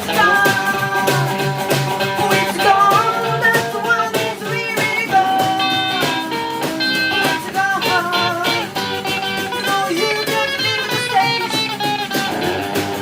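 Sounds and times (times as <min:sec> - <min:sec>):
drums: 0:00.0 - 0:13.0
electric guitar: 0:00.0 - 0:13.0.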